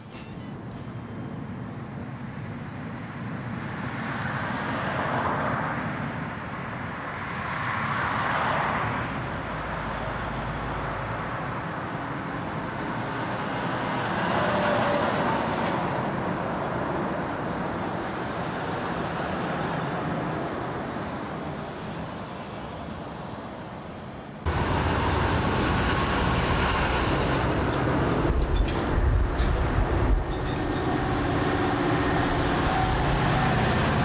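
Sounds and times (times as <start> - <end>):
heavy trucks passing: 0.0 - 34.0.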